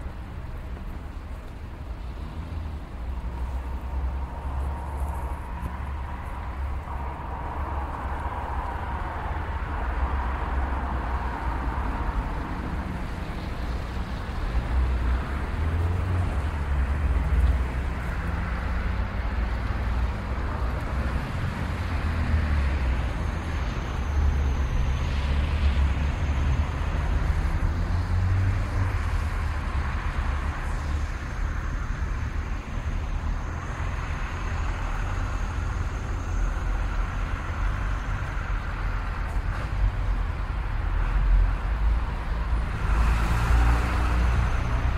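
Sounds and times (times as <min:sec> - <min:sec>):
traffic passing: 0:00.0 - 0:44.9.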